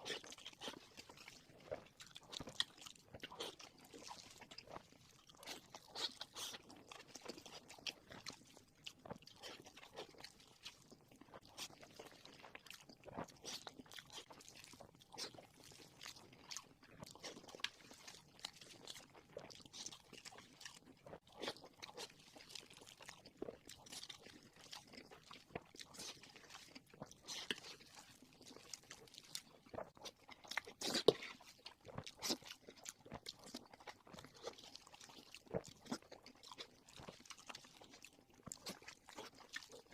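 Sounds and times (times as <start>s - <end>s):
chewing and crunching crispy food: 0.0s - 39.9s.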